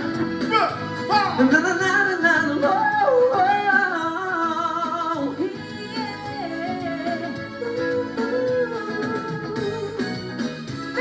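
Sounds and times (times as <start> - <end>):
band playing live: 0.0 - 11.0
person singing: 1.2 - 10.2.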